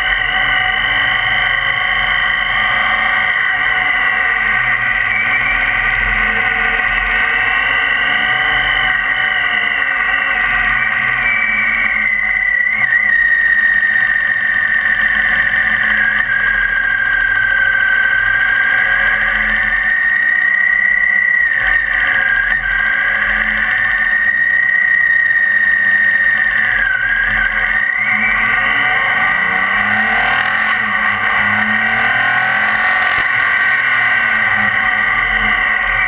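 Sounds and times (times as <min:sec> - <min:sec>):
motorcycle engine whine: 0:00.0 - 0:36.0.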